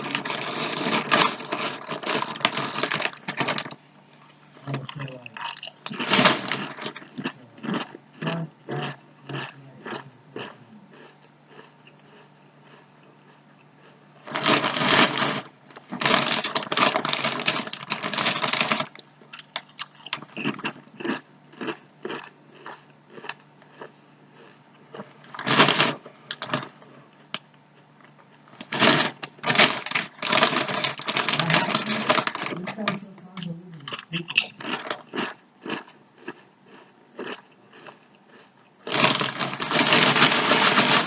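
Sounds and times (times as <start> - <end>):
chips crunching and chewing: 0.0 - 3.8, 4.6 - 41.0.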